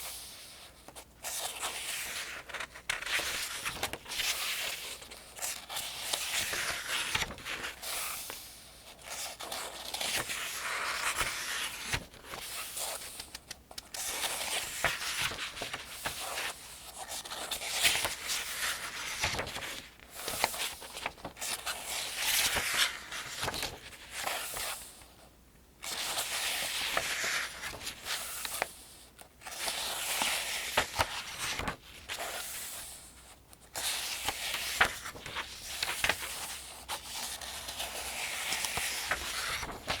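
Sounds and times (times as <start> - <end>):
paper pages being turned: 0.0 - 25.0, 25.8 - 40.0.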